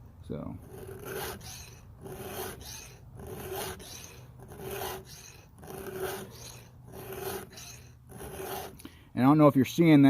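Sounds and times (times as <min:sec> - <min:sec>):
file rasping on saw chain tooth: 0:00.6 - 0:08.9.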